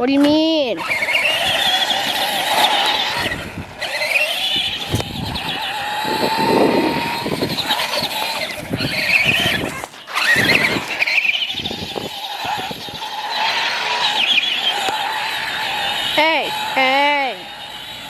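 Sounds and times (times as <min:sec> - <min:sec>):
rc car motor whining: 0:00.2 - 0:18.0.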